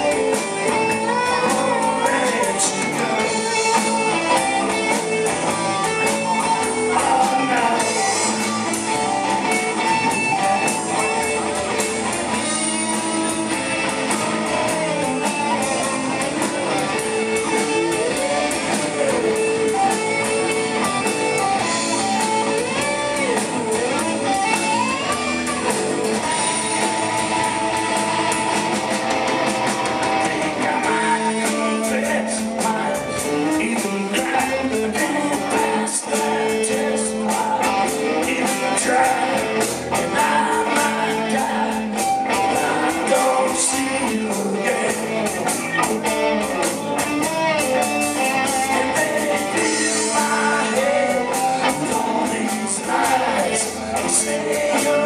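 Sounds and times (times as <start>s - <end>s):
bass and steady drum beat: 0.0s - 55.0s
electric guitars: 0.0s - 55.0s
lead guitar bending notes: 0.0s - 55.0s.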